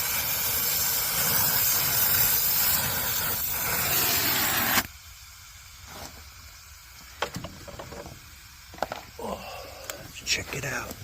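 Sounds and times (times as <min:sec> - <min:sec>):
brazing torch hissing: 0:00.0 - 0:11.0.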